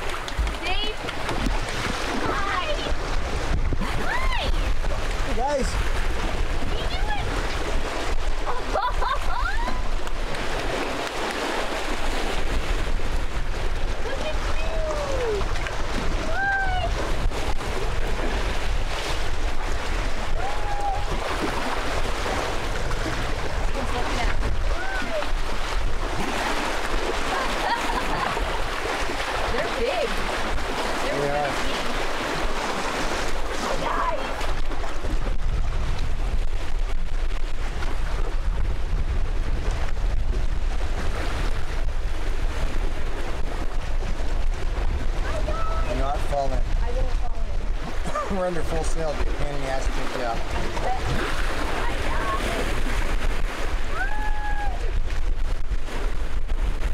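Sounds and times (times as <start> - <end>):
water rushing along hull: 0.0 - 56.9
wind buffeting microphone: 0.0 - 56.9.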